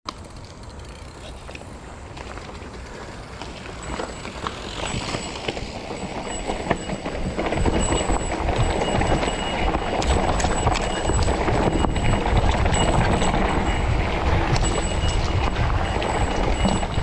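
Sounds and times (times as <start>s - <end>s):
bike tyres on dirt trail: 0.1s - 17.0s
low rumble: 1.8s - 17.0s.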